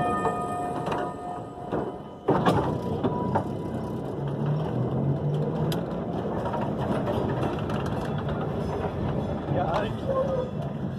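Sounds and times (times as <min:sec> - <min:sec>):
tram wheels rolling on rails: 0:00.0 - 0:10.9.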